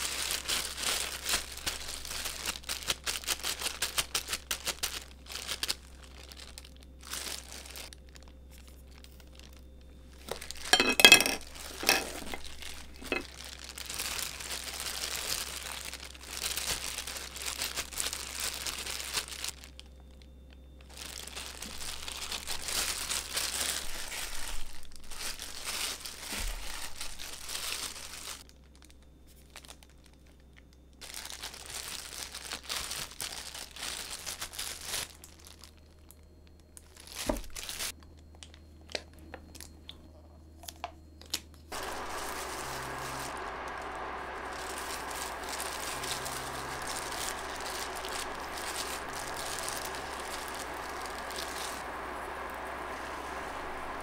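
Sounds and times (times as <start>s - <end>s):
plastic gloves crinkling: 0.0s - 39.8s, 40.6s - 54.0s.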